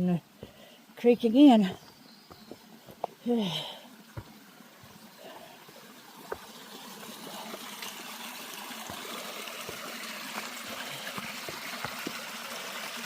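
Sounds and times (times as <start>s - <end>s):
creek water trickling over rocks: 0.1s - 13.0s.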